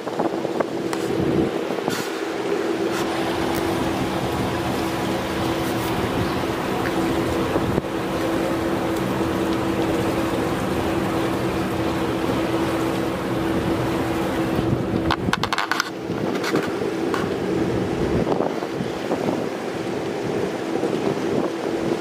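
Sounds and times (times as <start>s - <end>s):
engine humming: 0.0s - 22.0s
wind buffeting microphone: 0.0s - 22.0s.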